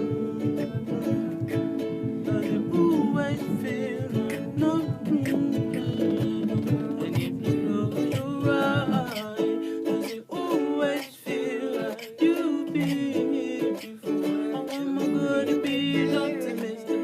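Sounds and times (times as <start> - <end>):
person singing wordless vocals: 0.0 - 17.0
strummed ukulele: 0.0 - 17.0.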